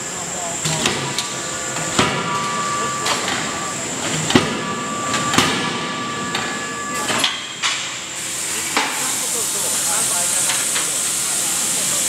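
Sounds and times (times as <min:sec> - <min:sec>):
steady machinery noise: 0:00.0 - 0:12.0.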